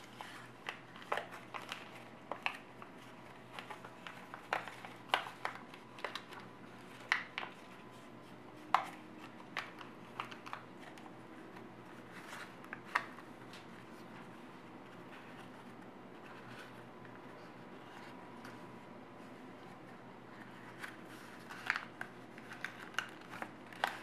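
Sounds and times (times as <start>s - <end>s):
paper rustling and crackling: 0.0s - 24.0s.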